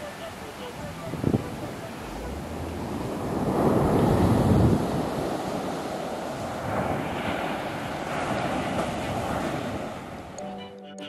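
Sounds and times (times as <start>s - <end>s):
ocean surf breaking on beach: 0.0s - 10.4s.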